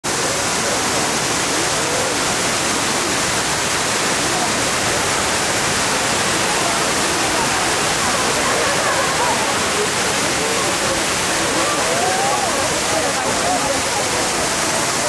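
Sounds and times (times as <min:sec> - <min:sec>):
faint crowd voices: 0:00.0 - 0:15.0
waterfall rushing hiss: 0:00.1 - 0:15.0.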